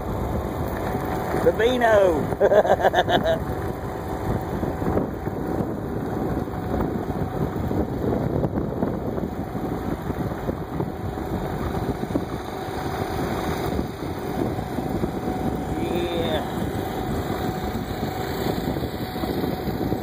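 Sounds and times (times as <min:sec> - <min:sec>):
vehicle driving on gravel: 0:00.0 - 0:20.0
wind on microphone: 0:00.0 - 0:20.0.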